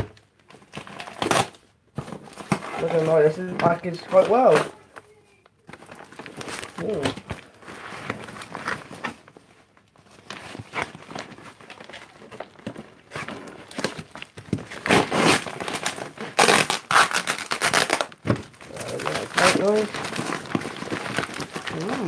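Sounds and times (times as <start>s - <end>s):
packing material crinkling: 2.3s - 22.0s.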